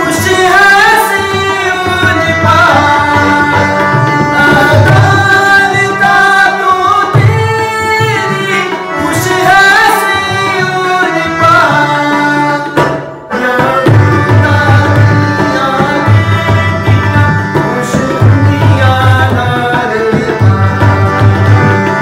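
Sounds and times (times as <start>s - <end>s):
man singing: 0.0s - 22.0s
tabla rhythm: 0.0s - 22.0s.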